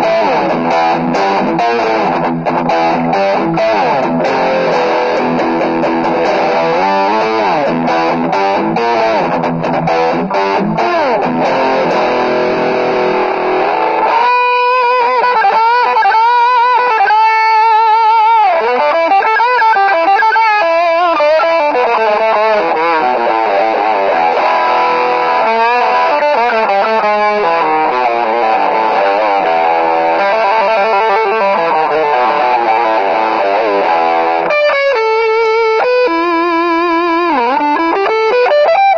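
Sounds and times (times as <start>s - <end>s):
electric guitar with effects: 0.0s - 38.9s.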